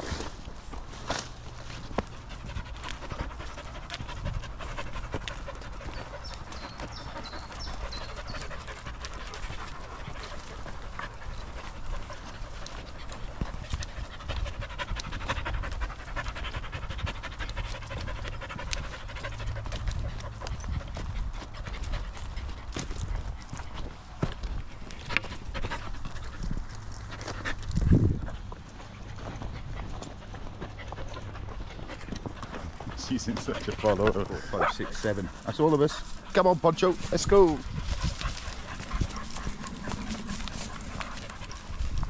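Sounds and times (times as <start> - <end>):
footsteps on dirt path: 0.0 - 42.0
dog panting: 0.1 - 42.0.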